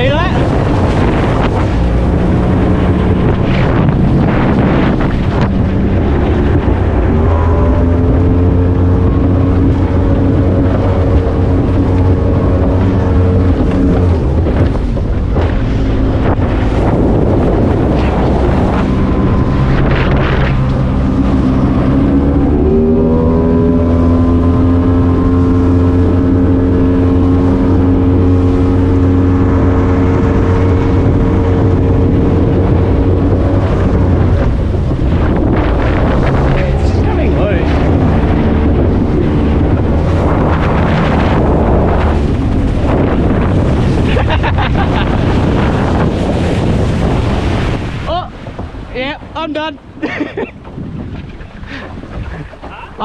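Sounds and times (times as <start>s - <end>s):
boat outboard engine running: 0.0s - 53.0s
wind noise on microphone: 0.0s - 53.0s.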